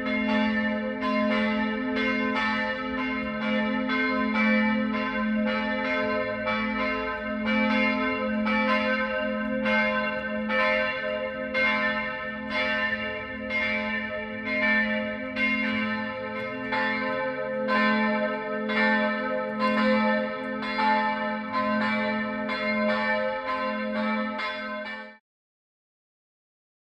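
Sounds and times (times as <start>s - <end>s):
church bells ringing: 0.0s - 25.2s.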